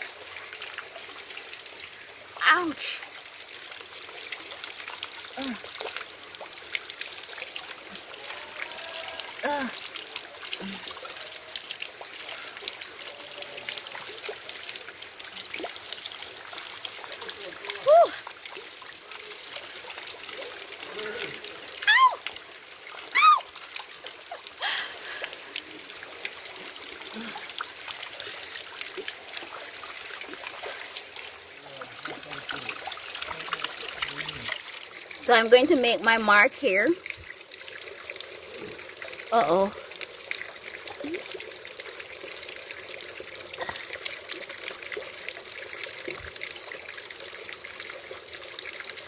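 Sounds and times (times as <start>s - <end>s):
water pouring and splattering: 0.0s - 49.0s.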